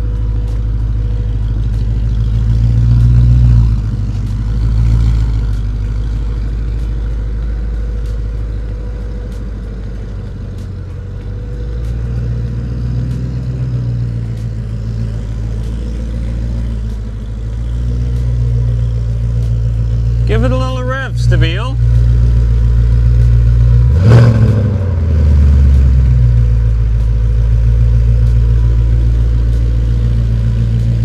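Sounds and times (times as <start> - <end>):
car engine low rumble: 0.0 - 31.0.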